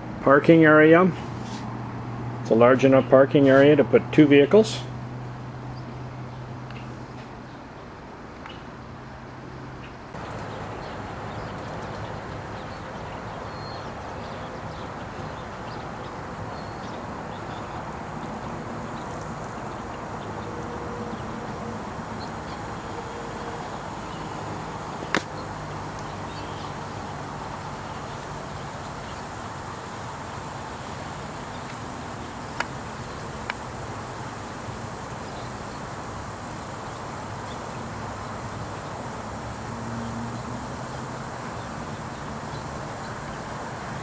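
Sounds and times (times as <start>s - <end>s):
outdoor background hum: 0.0s - 44.0s.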